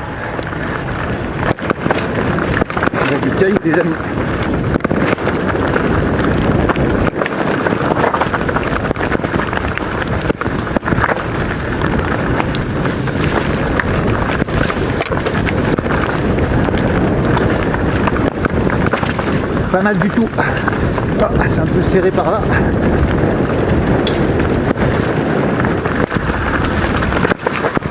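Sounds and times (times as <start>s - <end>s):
bike knocking and rattling: 0.0s - 27.9s
wind rushing on microphone: 0.0s - 27.9s
tyres crunching on loose stones: 0.2s - 27.9s.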